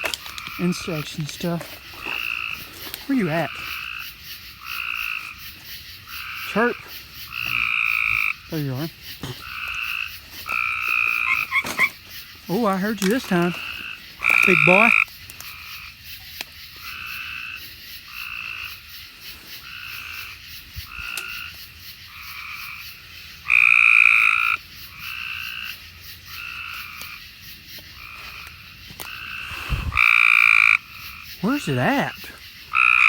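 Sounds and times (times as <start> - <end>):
tree frogs calling: 0.0 - 33.0.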